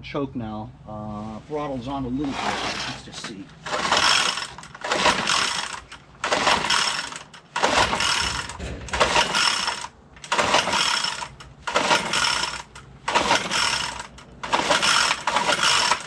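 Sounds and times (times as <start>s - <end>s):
recoil starter pull whirring: 2.2s - 16.0s.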